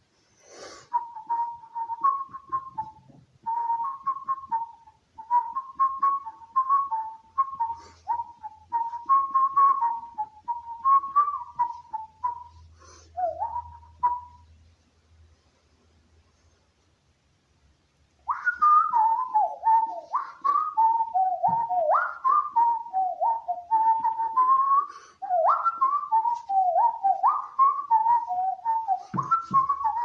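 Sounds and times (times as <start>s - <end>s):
person whistling a tune: 0.6s - 14.5s, 18.3s - 30.0s.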